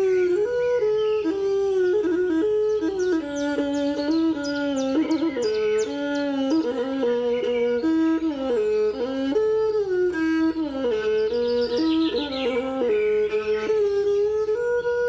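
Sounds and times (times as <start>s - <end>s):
wind instrument slow melody: 0.0s - 15.0s.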